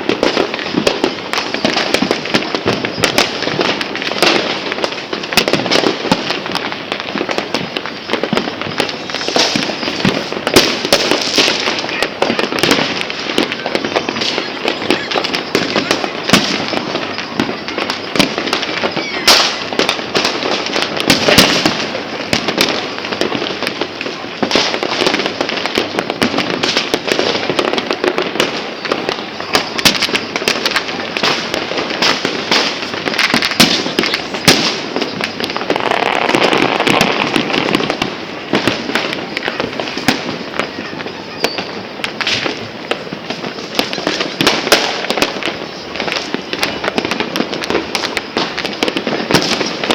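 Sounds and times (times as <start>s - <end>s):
firecracker bangs: 0.0s - 49.9s
fireworks crackling: 0.0s - 49.9s.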